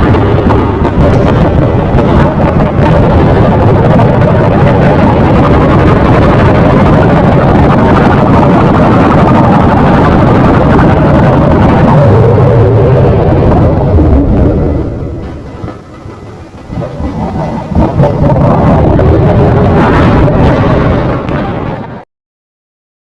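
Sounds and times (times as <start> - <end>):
loud steady rumbling: 0.0 - 22.0.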